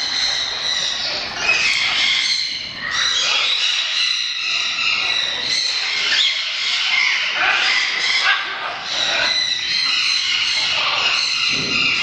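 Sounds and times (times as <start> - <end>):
parrots squawking: 0.0 - 12.0.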